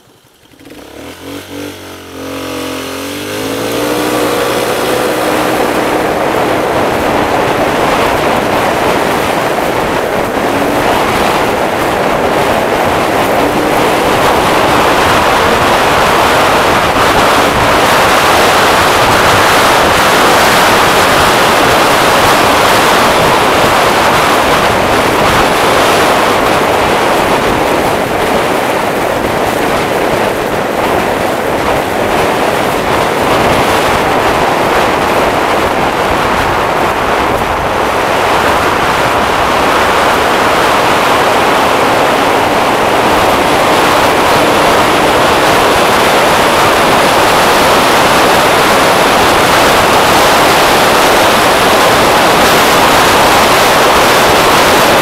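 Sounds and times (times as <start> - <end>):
scooter engine running: 0.0 - 55.0
wind rushing on microphone: 0.0 - 55.0.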